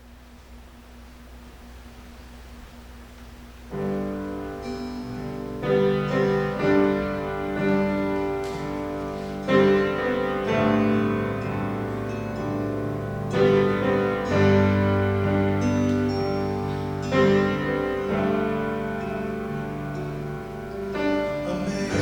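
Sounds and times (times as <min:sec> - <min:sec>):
faint steady hum: 0:00.0 - 0:22.0
slow piano chords: 0:03.6 - 0:22.0.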